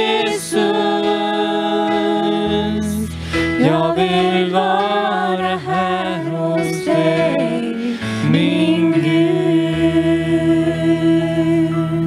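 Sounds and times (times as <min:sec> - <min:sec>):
acoustic guitar: 0:00.0 - 0:12.0
voices singing: 0:00.0 - 0:12.0.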